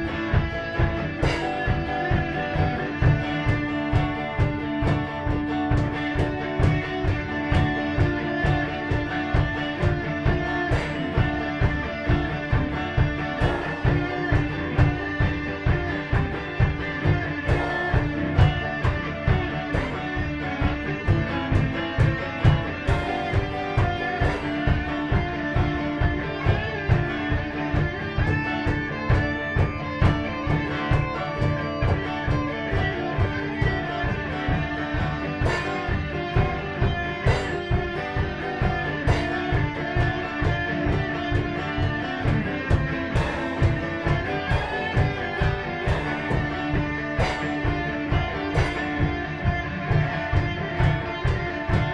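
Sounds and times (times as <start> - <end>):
drum kit beat: 0.0 - 51.9
electric guitars playing: 0.0 - 51.9.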